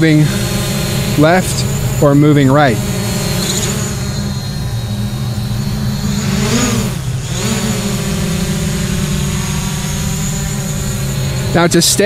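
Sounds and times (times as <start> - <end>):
drone propellers buzzing whine: 0.0 - 12.0.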